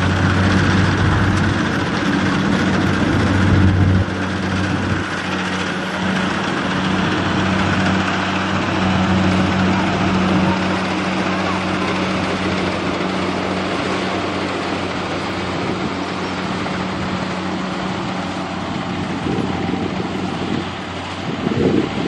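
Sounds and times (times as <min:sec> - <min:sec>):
combine harvester engine hum: 0:00.0 - 0:22.0
threshing machinery whirr: 0:00.0 - 0:22.0.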